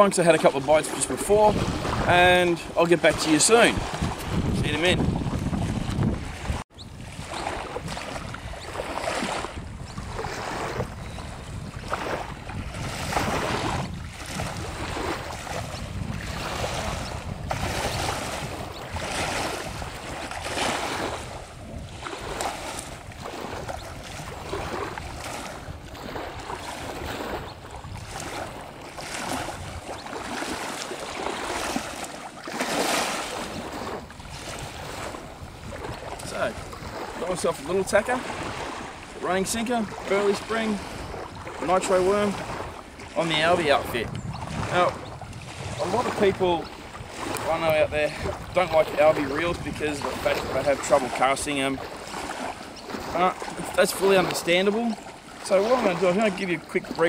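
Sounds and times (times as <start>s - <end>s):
small waves lapping: 0.0s - 57.0s
wind on microphone: 0.0s - 57.0s.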